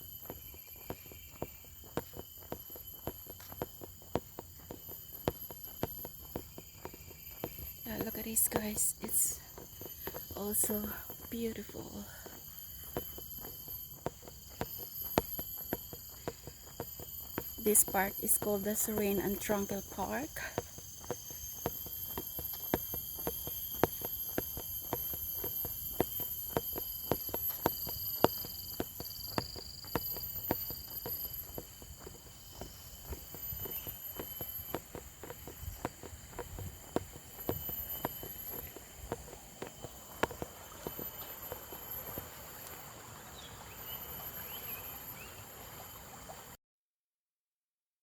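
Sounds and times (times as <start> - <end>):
footsteps walking: 0.0 - 43.4
forest insects droning: 0.0 - 46.6.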